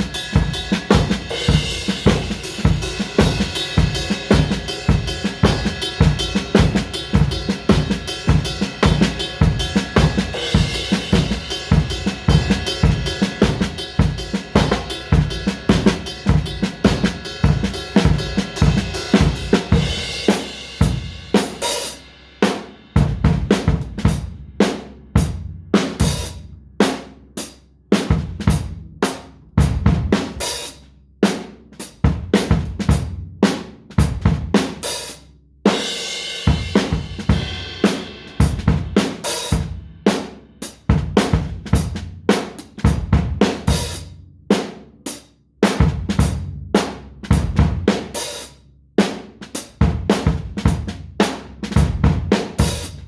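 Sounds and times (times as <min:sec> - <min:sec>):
drum kit groove: 0:00.0 - 0:53.0.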